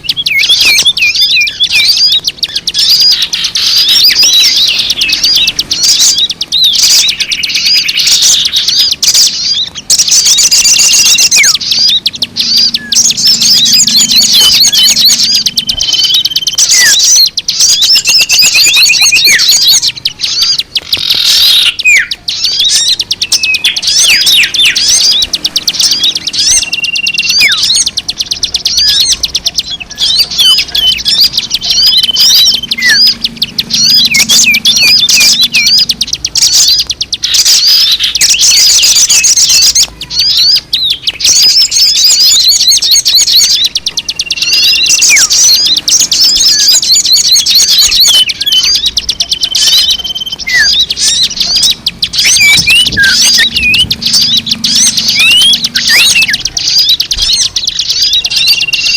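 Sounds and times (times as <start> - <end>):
small birds chirping and twittering: 0.0 - 58.9.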